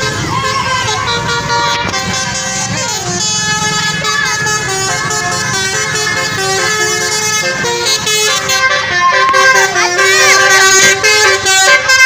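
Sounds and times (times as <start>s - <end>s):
multi-tone air horn melody: 0.0s - 12.0s.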